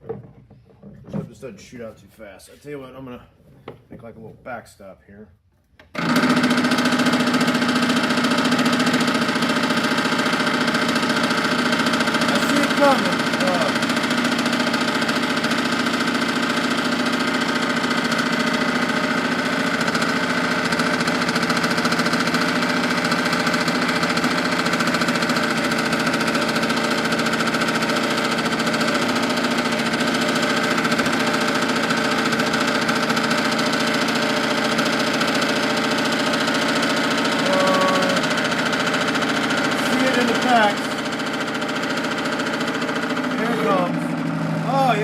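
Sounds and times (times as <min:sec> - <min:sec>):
electric pump running: 0:05.8 - 0:45.0.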